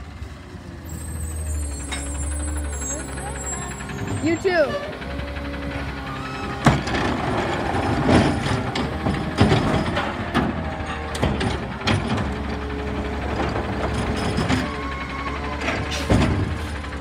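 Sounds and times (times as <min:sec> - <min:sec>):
garbage truck engine hum: 0:00.0 - 0:17.0
hydraulic arm lifting cart: 0:00.8 - 0:17.0.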